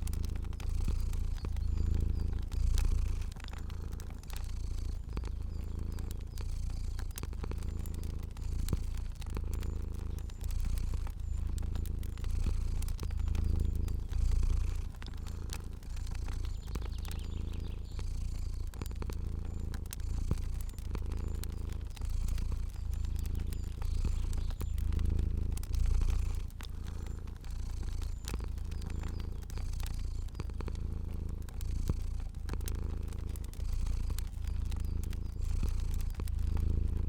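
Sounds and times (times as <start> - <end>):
cat purring: 0.0 - 37.0
fire crackling: 0.0 - 37.0.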